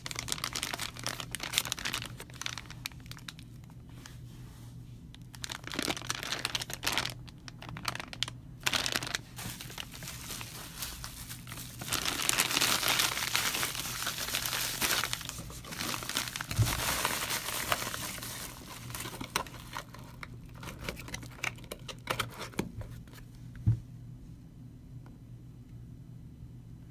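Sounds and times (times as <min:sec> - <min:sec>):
plastic bags crinkling: 0:00.0 - 0:03.9, 0:05.1 - 0:23.2.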